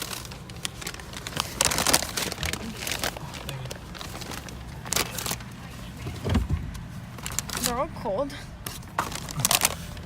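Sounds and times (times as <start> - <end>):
paper bags rustling and crinkling: 0.0 - 8.0, 8.6 - 10.0
car hum: 0.0 - 10.0.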